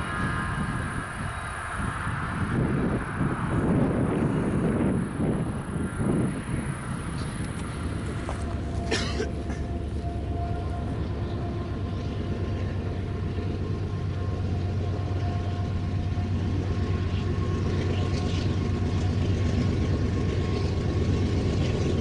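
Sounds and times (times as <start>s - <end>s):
thin steady whine: 0.0s - 22.0s
train wheels rumbling on rail: 0.0s - 22.0s.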